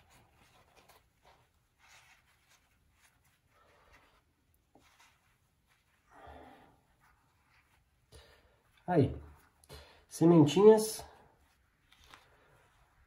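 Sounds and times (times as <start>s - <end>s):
paper towel rustling: 0.0s - 13.0s.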